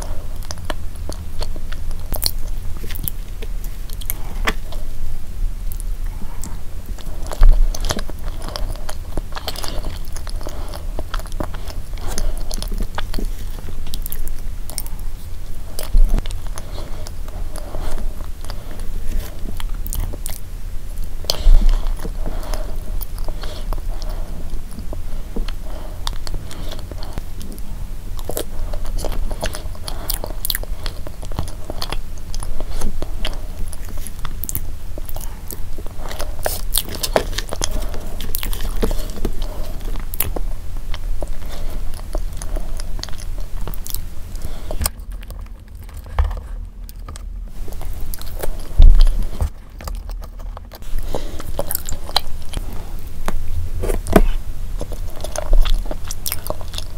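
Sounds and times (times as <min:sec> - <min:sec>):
close chewing mouth sounds: 0:00.0 - 0:56.9.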